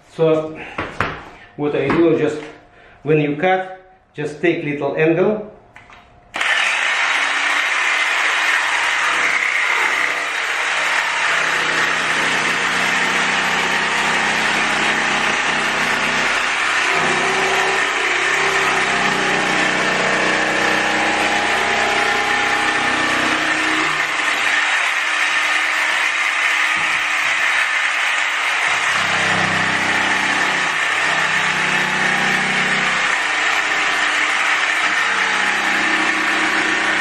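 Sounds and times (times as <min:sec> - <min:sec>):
electric saw cutting: 0:06.4 - 0:37.0.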